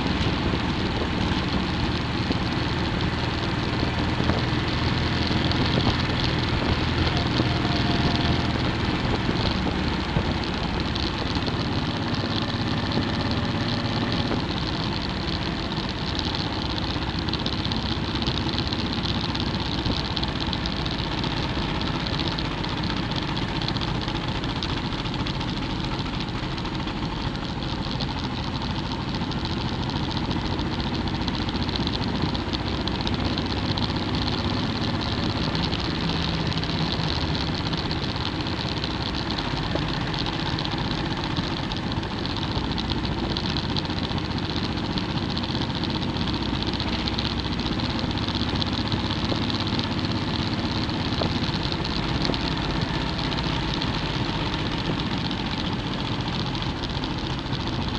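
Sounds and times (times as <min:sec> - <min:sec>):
motorcycle engine cruising: 0:00.0 - 0:57.9
wind and road noise: 0:00.0 - 0:57.9.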